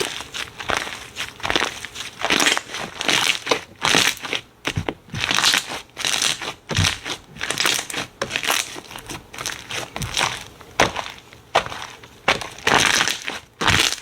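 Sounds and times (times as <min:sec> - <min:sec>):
slime squishing: 0:00.0 - 0:14.0.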